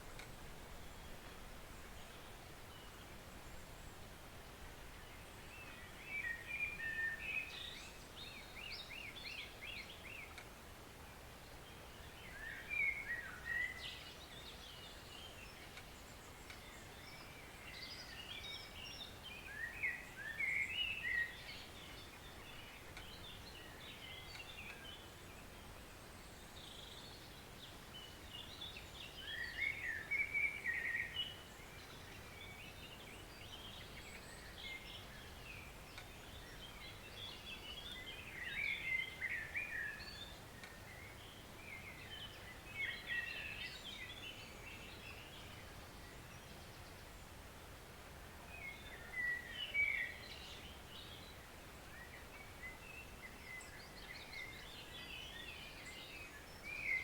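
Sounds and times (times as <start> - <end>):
faint forest stream rushing: 0.0 - 57.0
songbirds chirping and trilling: 0.0 - 57.0.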